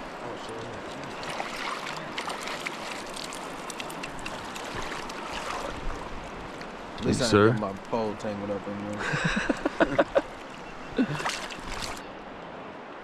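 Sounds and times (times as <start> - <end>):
shallow river water flowing: 0.0 - 13.0.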